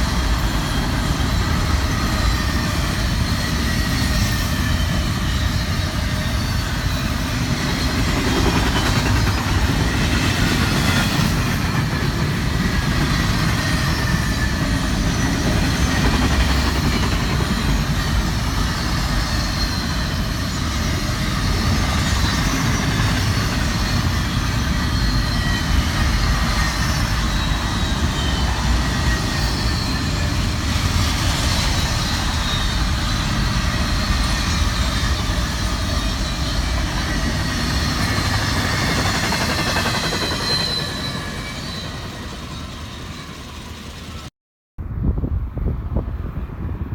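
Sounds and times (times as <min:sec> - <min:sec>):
high-pitched wheel squeal: 0:00.0 - 0:11.9, 0:17.1 - 0:44.2
train wheels rumbling on rail: 0:00.0 - 0:44.3.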